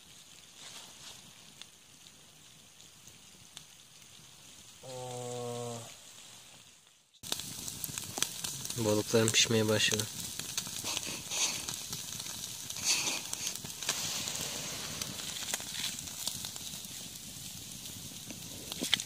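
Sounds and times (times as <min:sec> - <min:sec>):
fish sizzling over embers: 0:00.0 - 0:19.0
wood fire crackling: 0:00.0 - 0:19.0.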